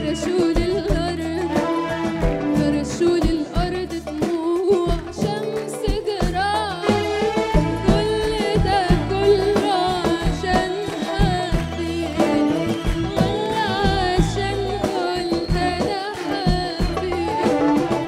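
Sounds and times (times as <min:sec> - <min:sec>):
band playing: 0:00.0 - 0:18.0
drums steady beat: 0:00.0 - 0:18.0
woman singing: 0:00.0 - 0:18.0.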